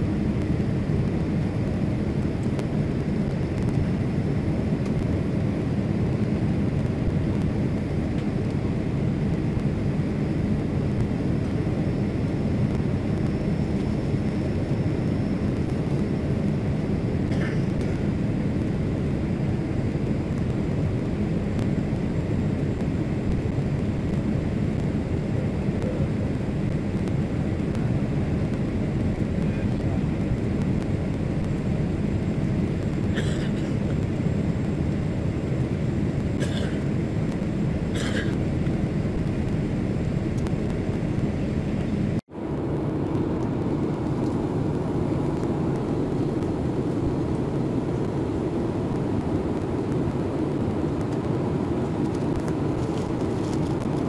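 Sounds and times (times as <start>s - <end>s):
airplane cabin engine rush: 0.0s - 54.0s.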